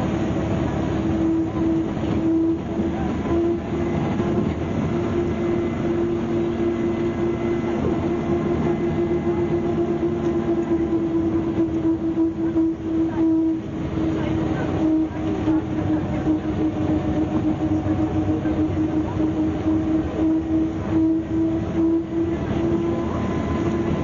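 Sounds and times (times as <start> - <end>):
bus engine running: 0.0 - 24.0
constant whine: 0.0 - 24.0.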